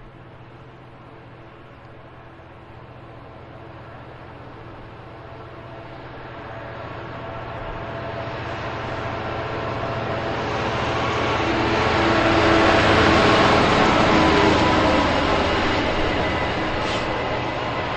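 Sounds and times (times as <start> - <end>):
diesel locomotive engine: 0.0 - 17.9.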